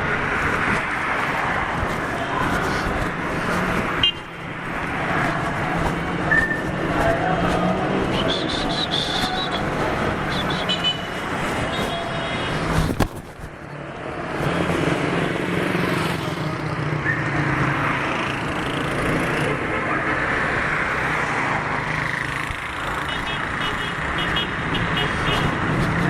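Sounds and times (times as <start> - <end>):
car engines passing by: 0.0 - 26.0.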